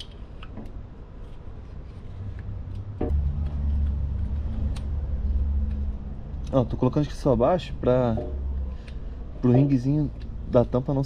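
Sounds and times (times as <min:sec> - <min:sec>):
engine rumble: 0:00.6 - 0:11.0.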